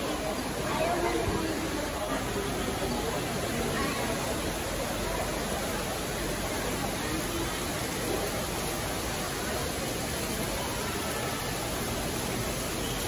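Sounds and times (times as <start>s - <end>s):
faint distant crowd chatter: 0.0s - 13.0s
indoor hall background noise: 0.0s - 13.0s.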